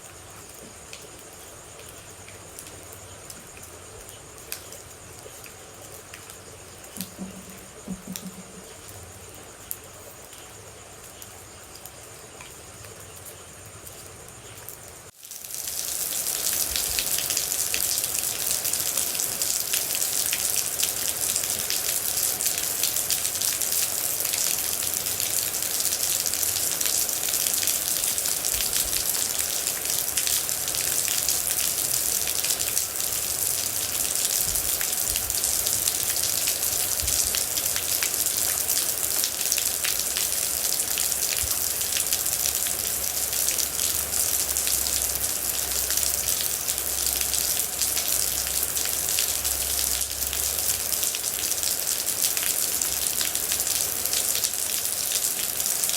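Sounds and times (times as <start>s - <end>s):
steady rain pattering: 0.0s - 55.9s.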